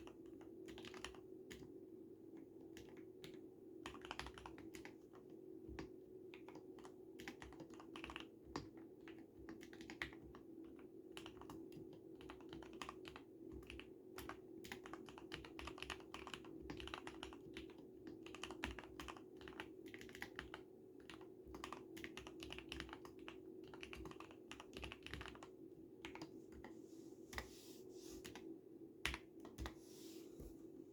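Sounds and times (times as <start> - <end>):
mechanical keyboard typing: 0.0 - 26.7, 28.2 - 29.8.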